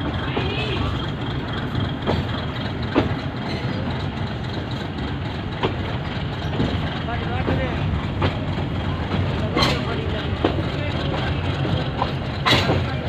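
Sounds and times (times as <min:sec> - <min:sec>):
train rolling with low rumble: 0:00.0 - 0:13.0.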